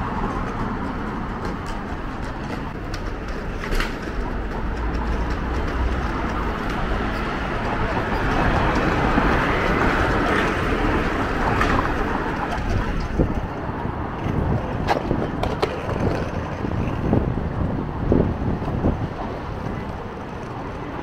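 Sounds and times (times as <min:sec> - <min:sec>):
traffic rushing: 0:00.0 - 0:21.0
voices of passers-by: 0:00.0 - 0:21.0.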